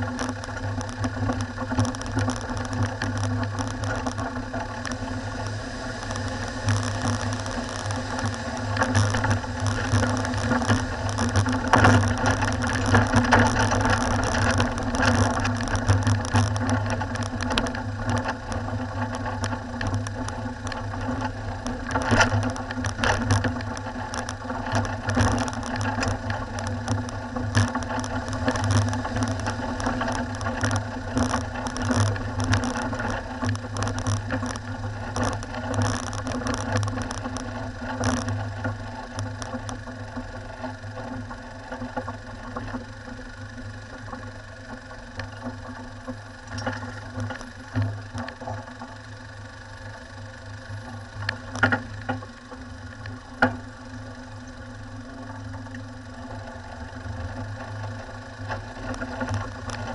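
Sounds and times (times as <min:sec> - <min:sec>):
knocks and rattles on gravel: 0:00.0 - 0:59.9
vehicle engine running: 0:00.0 - 0:59.9.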